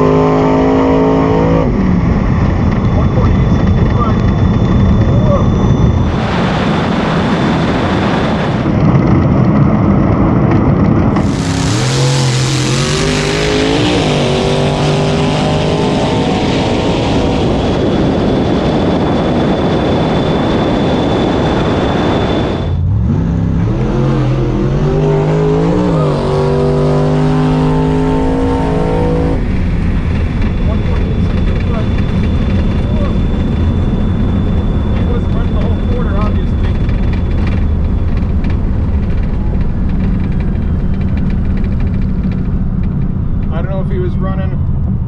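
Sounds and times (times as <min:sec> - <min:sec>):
racing cars roaring: 0:00.0 - 0:45.0
rising pitched drone: 0:00.0 - 0:45.0.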